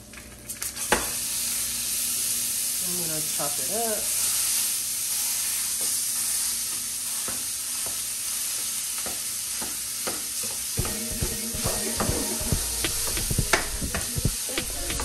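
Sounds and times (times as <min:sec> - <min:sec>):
ground beef sizzling in a pan: 0:00.5 - 0:12.8.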